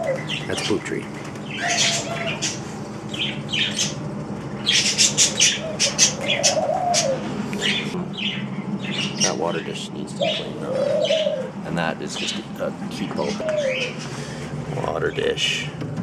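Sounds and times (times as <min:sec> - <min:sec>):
small birds chirping: 0:00.0 - 0:15.7
doves cooing: 0:00.0 - 0:16.0
steady low hum: 0:00.0 - 0:16.0.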